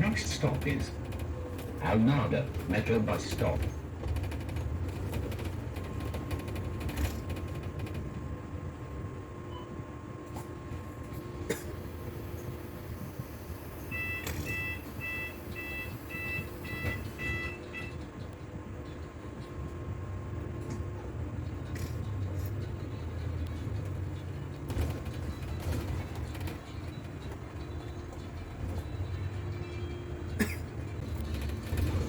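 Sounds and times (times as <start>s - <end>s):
bus rumble: 0.0s - 32.0s.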